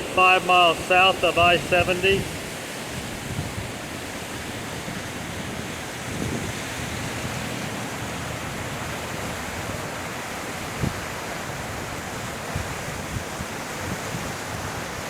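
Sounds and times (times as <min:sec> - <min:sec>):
floodwater rushing in a creek: 0:00.0 - 0:15.0.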